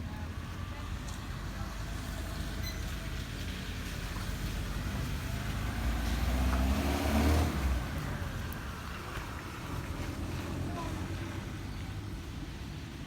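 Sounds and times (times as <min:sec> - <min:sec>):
vehicle engine rumbling past: 0:00.3 - 0:12.2.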